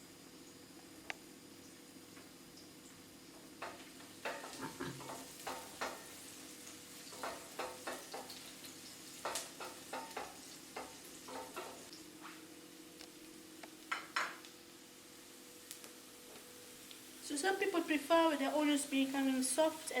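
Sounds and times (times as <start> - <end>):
onions frying in oil: 0.0 - 20.0.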